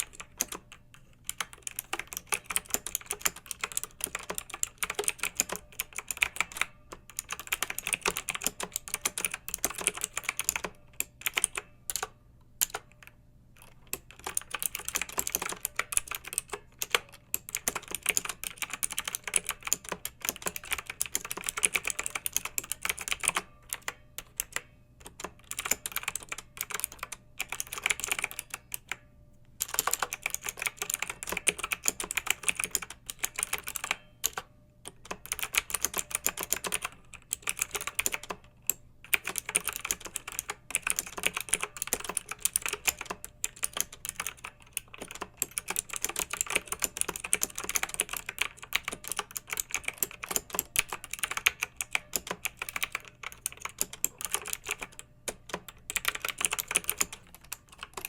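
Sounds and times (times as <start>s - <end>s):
typing on mechanical keyboard: 0.0s - 29.0s, 29.6s - 58.0s.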